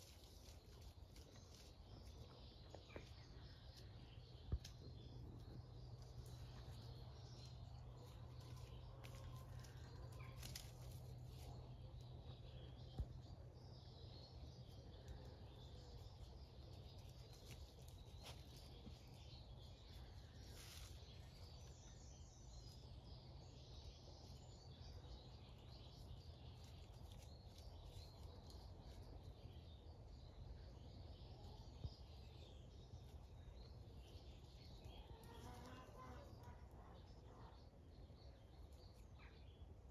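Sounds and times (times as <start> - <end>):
faint bird chirps: 0.0 - 39.9
faint low rumble: 0.0 - 39.9.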